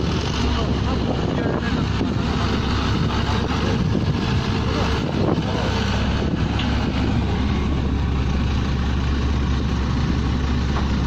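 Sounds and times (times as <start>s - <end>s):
pneumatic drilling rig running: 0.0s - 11.0s.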